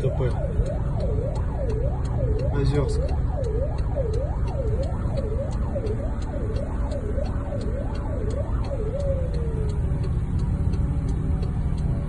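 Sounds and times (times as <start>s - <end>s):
emergency vehicle siren wailing: 0.0s - 12.0s
faint ticks: 0.3s - 12.0s.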